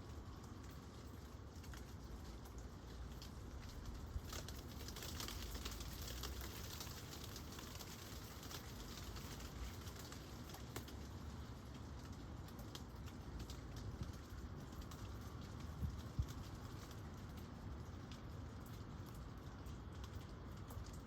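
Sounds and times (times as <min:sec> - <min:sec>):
gentle rain hiss: 0:00.0 - 0:21.0
low steady rumble: 0:00.0 - 0:21.0
raindrops ticking on hard surface: 0:00.0 - 0:21.0.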